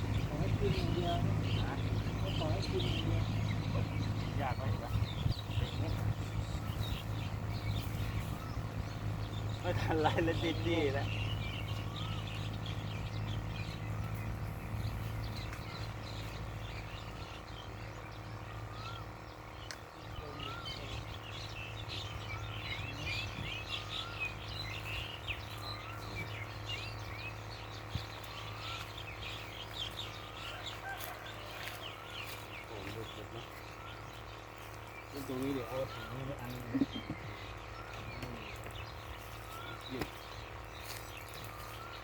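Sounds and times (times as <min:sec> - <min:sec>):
birds chirping: 0:00.0 - 0:42.0
steady low hum: 0:00.0 - 0:42.0.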